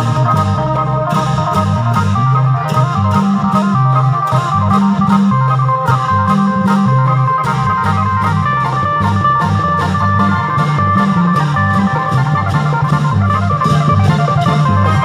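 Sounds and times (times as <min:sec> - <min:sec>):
bass line: 0:00.0 - 0:15.0
long drums playing quick beat: 0:00.0 - 0:15.0
organ-like melody: 0:00.0 - 0:15.0.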